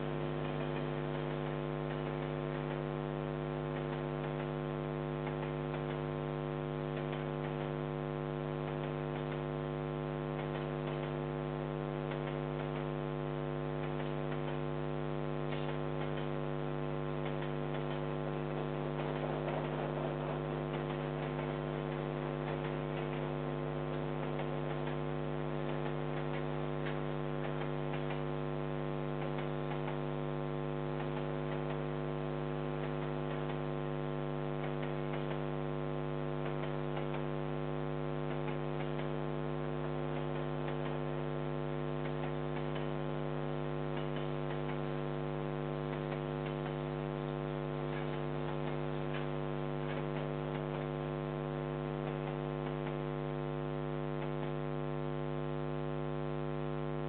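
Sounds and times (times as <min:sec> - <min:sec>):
electrical mains hum: 0:00.0 - 0:57.0
faint crackle: 0:00.0 - 0:57.0.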